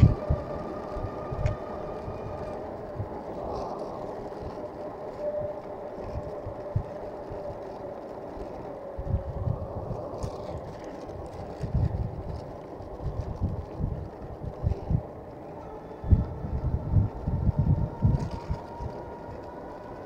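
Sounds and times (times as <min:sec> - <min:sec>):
bicycle tyres humming on road: 0:00.0 - 0:20.0
wind buffeting microphone: 0:00.0 - 0:20.0.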